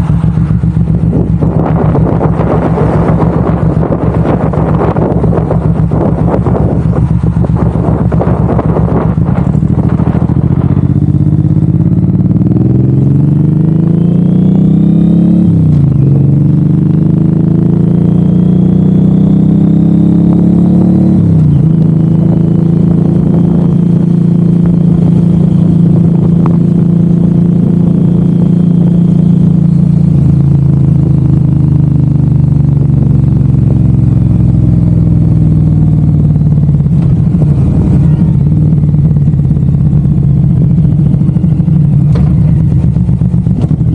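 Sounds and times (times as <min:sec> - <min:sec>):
motorcycle engine shifting through gears: 0:00.0 - 0:43.9.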